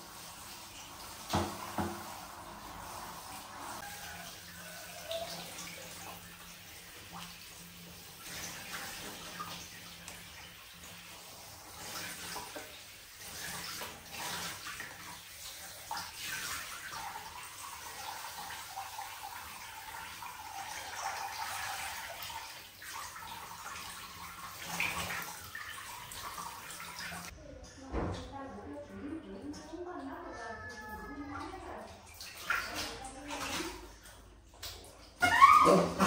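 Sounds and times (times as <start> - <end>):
bath water splashing: 0.0 - 27.4, 29.4 - 36.0.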